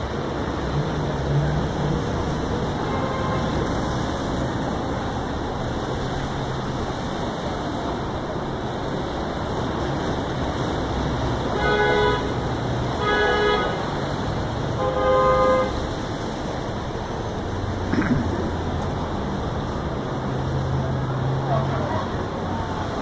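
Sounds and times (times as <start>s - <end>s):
city traffic noise: 0.0s - 23.0s.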